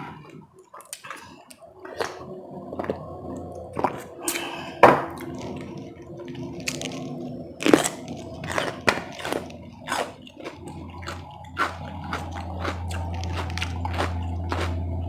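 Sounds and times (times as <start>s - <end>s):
wet chewing: 0.6s - 4.6s, 5.2s - 14.9s.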